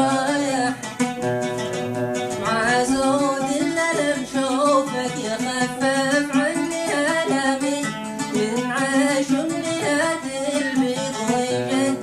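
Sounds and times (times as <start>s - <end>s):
person singing: 0.0s - 1.0s, 2.3s - 12.0s
plucked string instrument: 0.0s - 12.0s.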